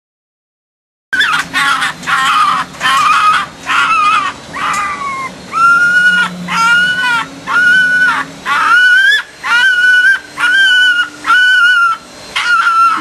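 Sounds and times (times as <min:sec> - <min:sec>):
fox cub crying: 0:01.2 - 0:13.0.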